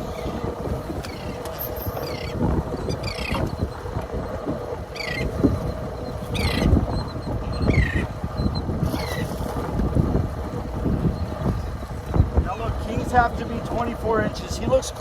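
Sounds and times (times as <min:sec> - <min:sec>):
wind and water buffeting boat: 0:00.0 - 0:15.0.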